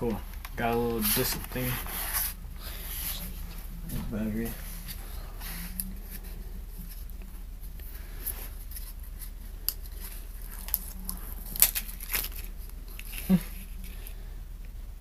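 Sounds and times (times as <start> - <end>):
plastic packaging rustling: 0.0 - 14.3.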